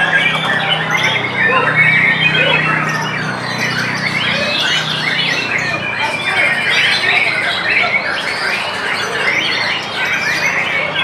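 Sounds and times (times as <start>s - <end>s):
bird singing varied phrases: 0.0s - 11.0s
many birds singing: 0.0s - 11.0s.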